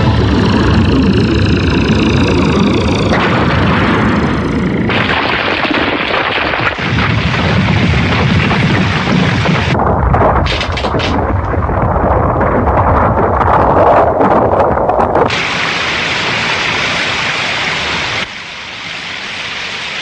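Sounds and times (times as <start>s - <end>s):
rumble of blasts and explosions: 0.0s - 20.0s.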